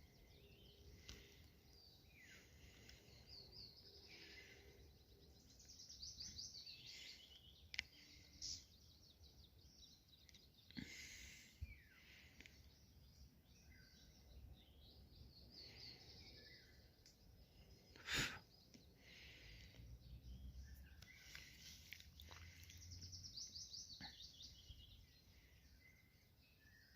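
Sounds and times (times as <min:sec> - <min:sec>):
birds chirping and trilling: 0:00.0 - 0:26.9.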